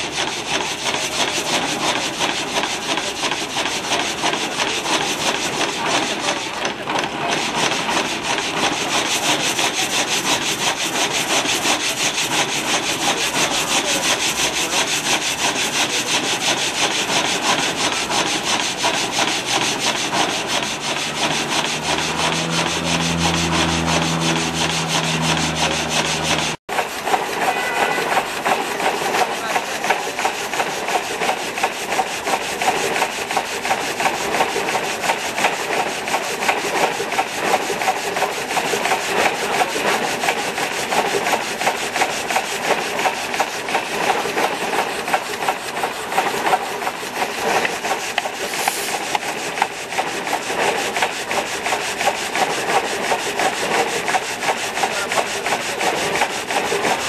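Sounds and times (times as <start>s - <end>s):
frame saw rasping through log: 0.0s - 57.0s.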